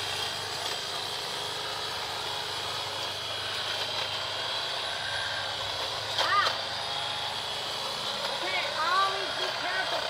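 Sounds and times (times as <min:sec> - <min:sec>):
chainsaw running: 0:00.0 - 0:10.0.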